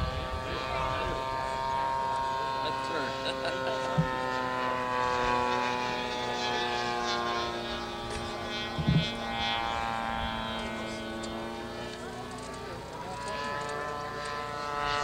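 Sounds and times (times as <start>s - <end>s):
model airplane engine buzzing: 0.0s - 15.0s.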